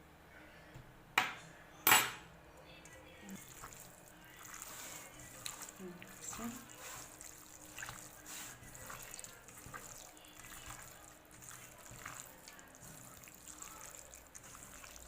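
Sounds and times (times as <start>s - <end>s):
wet squelches of hands mixing: 2.8s - 15.0s.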